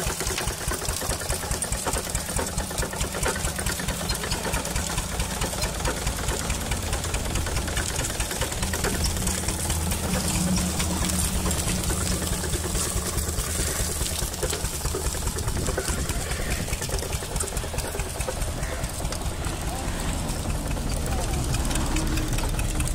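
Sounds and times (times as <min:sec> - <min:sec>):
cane stalks being crushed: 0:00.0 - 0:22.9
engine knocking beat: 0:00.0 - 0:22.9
sugarcane crusher running: 0:00.0 - 0:22.9.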